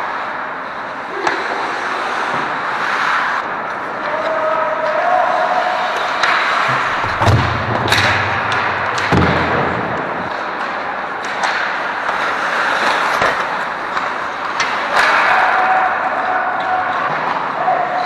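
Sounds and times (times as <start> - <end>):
skates scraping ice: 0.0 - 18.0
pucks and sticks clacking: 1.1 - 18.0.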